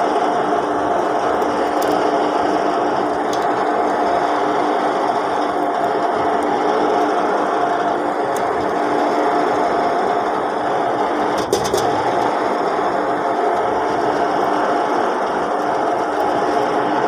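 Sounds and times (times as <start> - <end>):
crane engine droning: 0.0 - 17.0.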